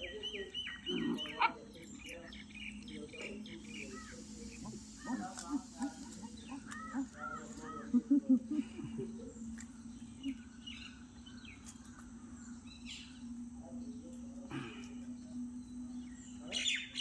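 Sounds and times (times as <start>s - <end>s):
faint bird chirps: 0.0s - 17.0s
steady low hum: 0.0s - 17.0s.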